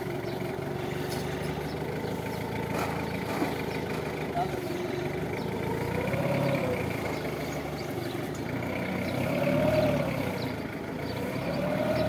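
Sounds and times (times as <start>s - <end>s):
forklift running: 0.0s - 12.0s.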